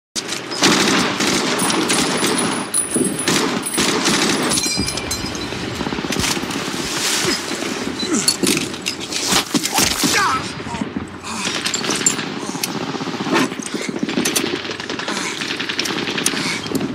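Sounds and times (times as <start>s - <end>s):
dense battle gunfire: 0.4s - 8.9s, 9.8s - 16.9s.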